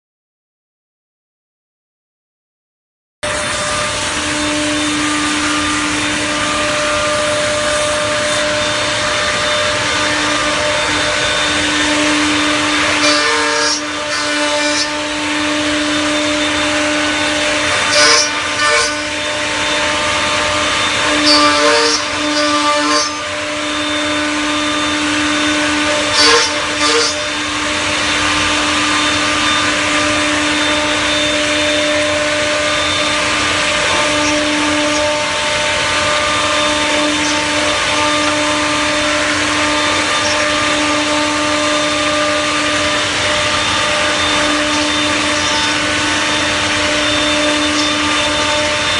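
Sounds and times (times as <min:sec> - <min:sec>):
router machine cutting wood: 0:03.2 - 0:48.9.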